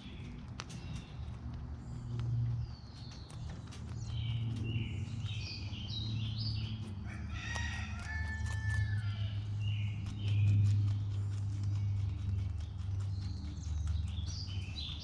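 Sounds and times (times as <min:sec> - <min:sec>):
low steady hum: 0:00.0 - 0:15.0
rabbit chewing clicks: 0:00.0 - 0:15.0.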